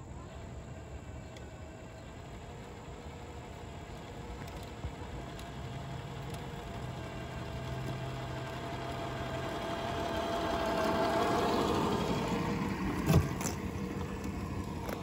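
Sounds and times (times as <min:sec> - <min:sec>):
radio-controlled truck running: 0:00.0 - 0:15.0.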